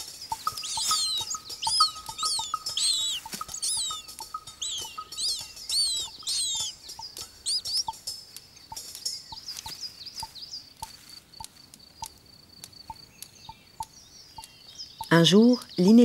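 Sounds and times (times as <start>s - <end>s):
bird chick begging chirps: 0.0s - 12.2s, 12.8s - 16.0s.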